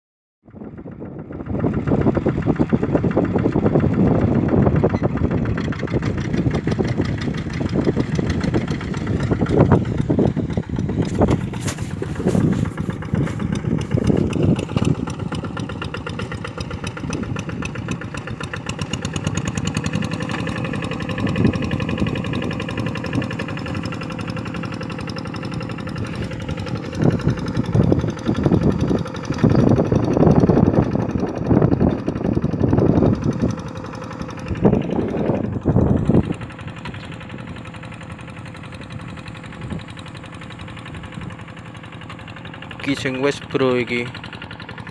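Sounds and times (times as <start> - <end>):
diesel engine running under load: 0.4 - 44.9.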